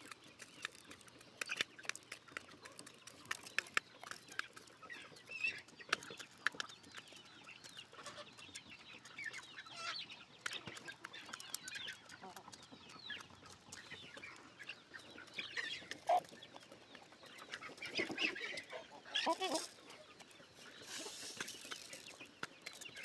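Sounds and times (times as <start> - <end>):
roosters clucking: 0.0 - 23.0.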